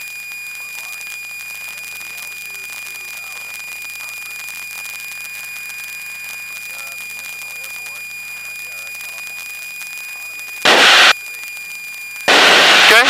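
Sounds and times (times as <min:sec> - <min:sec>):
aircraft engine drone: 0:00.0 - 0:13.0
high-pitched whine: 0:00.0 - 0:13.0.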